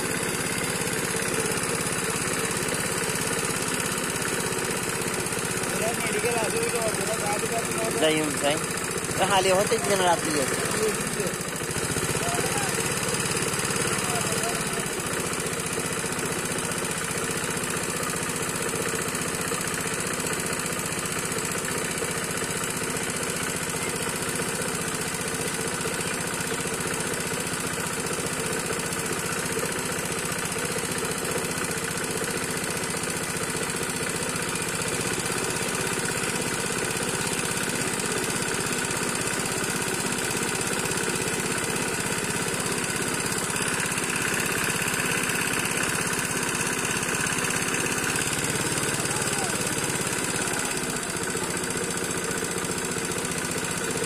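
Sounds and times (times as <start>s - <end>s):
engine-driven water pump running: 0.0s - 54.0s.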